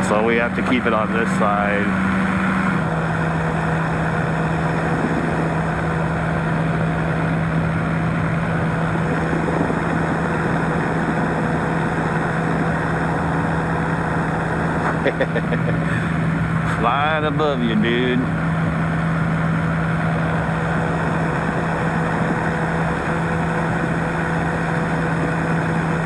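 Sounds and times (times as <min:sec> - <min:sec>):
powered parachute engine droning: 0:00.0 - 0:26.0.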